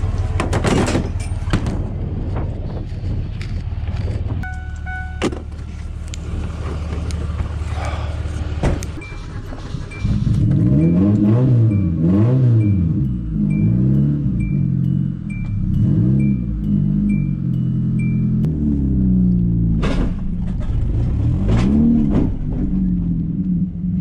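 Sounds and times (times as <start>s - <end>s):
engine running and revving: 0.0s - 24.0s.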